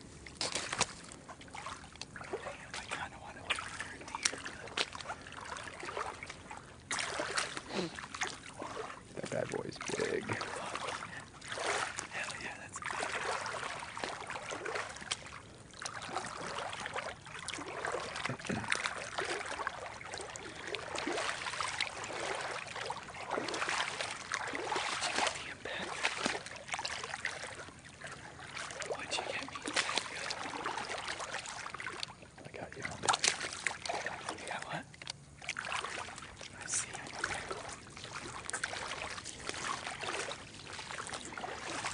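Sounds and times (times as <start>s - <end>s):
splashy rustles: 0.0s - 41.9s
swamp water sloshing: 0.0s - 41.9s.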